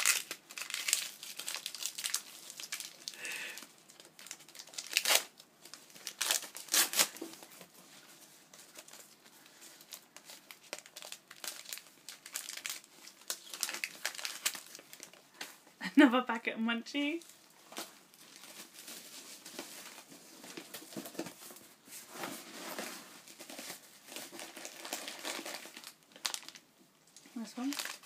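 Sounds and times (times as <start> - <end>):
packaging crinkling and rustling: 0.0 - 15.6, 17.2 - 28.0.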